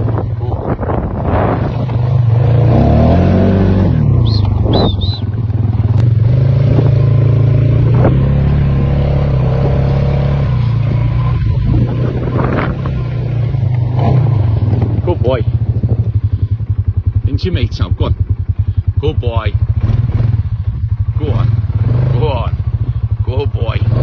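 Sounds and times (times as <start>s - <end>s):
vehicle engine running at low revs: 0.0s - 24.0s.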